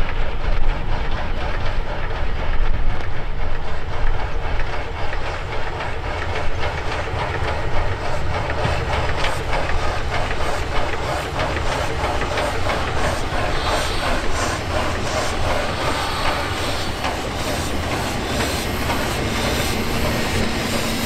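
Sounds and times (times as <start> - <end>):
steam locomotive chuffing: 0.0 - 21.0
wheels clattering on rails: 0.0 - 21.0.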